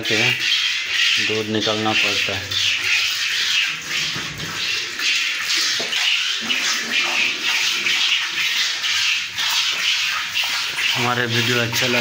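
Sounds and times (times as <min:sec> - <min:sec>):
milk squirting into metal pail: 0:00.0 - 0:12.0.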